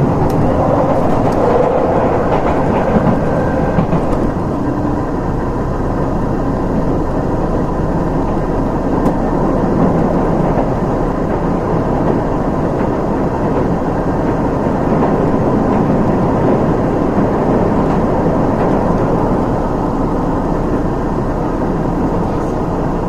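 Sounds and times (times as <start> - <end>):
diesel train running: 0.0 - 23.0.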